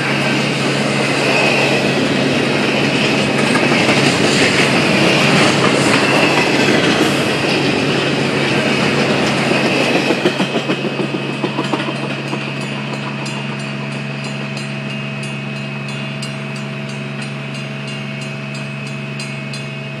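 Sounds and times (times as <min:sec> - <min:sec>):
freight train rumble: 0:00.0 - 0:20.0
train wheels clacking over rail joints: 0:01.9 - 0:19.9.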